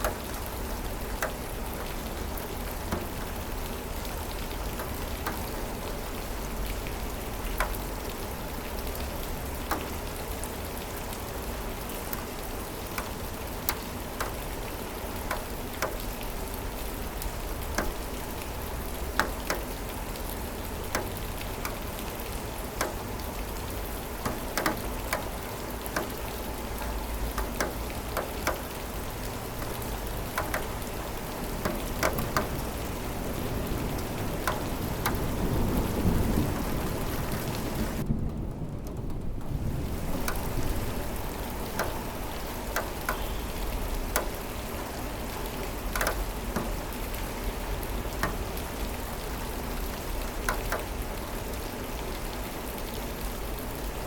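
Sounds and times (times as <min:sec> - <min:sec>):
rain falling: 0:00.0 - 0:54.0
raindrops clicking close by: 0:00.0 - 0:54.0.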